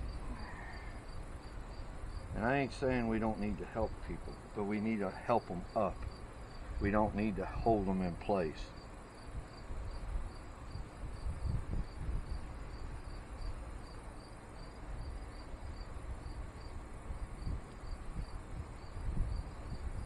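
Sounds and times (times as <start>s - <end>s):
cricket chirping: 0.0s - 20.0s
low outdoor rumble: 0.0s - 20.0s.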